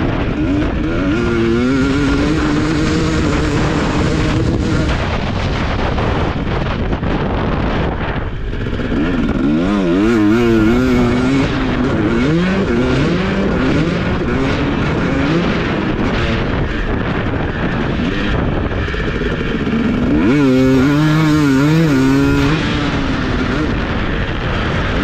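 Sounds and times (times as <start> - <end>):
motocross bike engine revving: 0.0 - 25.0
wind rushing: 0.0 - 25.0.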